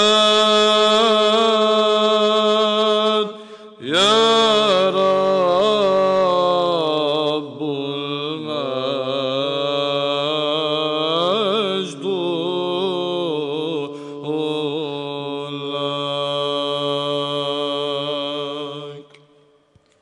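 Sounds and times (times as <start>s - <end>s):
man chanting ornamented melody: 0.0s - 19.1s
held vocal drone: 0.0s - 19.4s.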